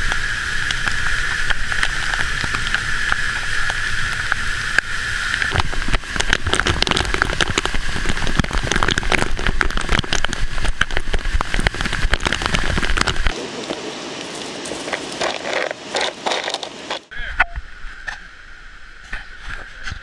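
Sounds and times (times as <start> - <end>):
droplets pattering on microphone: 0.0 - 17.1
water rushing: 0.0 - 20.0.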